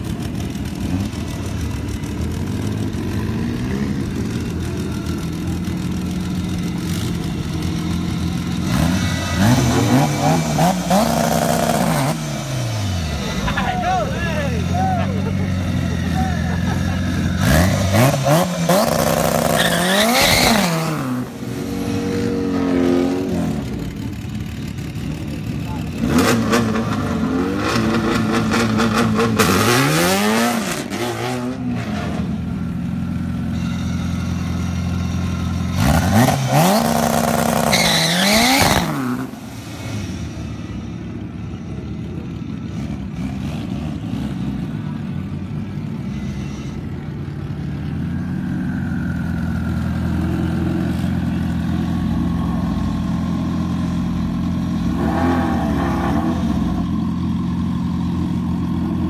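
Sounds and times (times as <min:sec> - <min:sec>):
car engines idling: 0:00.0 - 0:19.4, 0:20.9 - 0:29.8, 0:31.5 - 0:37.9, 0:39.2 - 0:55.0, 0:55.6 - 0:59.0
car engines revving hard: 0:00.0 - 0:32.5, 0:35.2 - 0:40.9, 0:42.3 - 0:47.6, 0:48.5 - 0:59.0.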